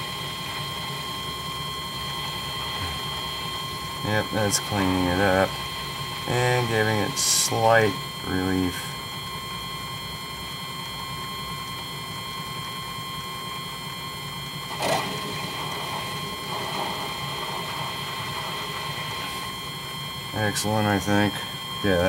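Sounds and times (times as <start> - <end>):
metal lathe motor whine: 0.0 - 22.0.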